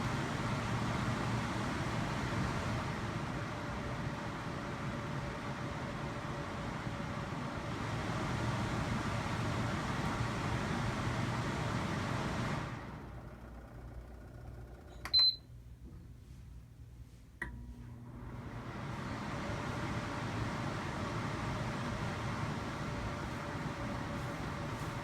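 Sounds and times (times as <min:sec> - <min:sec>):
air cooler fan noise: 0:00.0 - 0:25.0.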